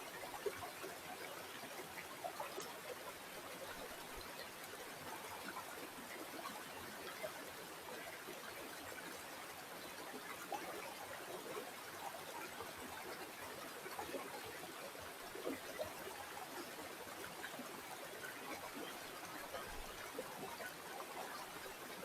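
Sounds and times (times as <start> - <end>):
stream trickling over stones: 0.0 - 22.0.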